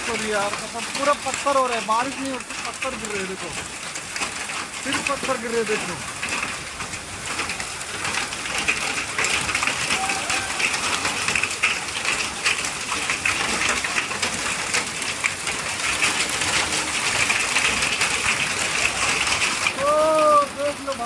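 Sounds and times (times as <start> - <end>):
hailstones pelting: 0.0 - 21.0
hiss of falling rain: 0.0 - 21.0.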